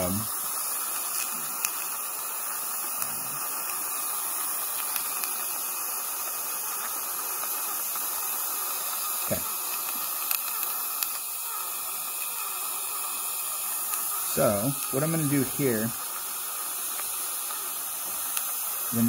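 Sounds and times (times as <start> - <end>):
dental suction hissing: 0.0 - 19.0.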